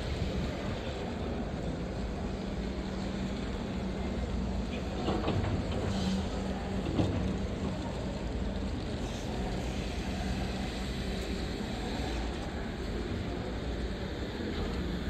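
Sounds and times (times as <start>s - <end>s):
vehicles and machinery rumble: 0.0s - 15.0s.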